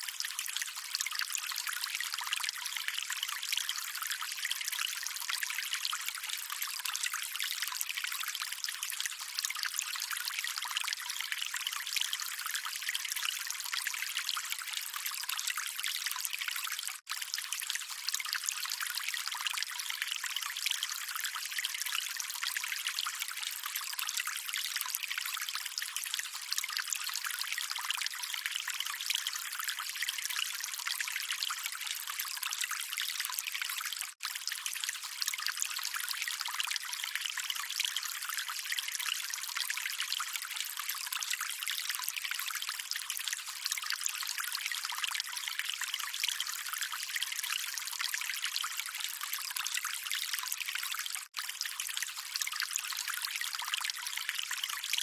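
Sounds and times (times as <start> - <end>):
calm running water: 0.0 - 55.0.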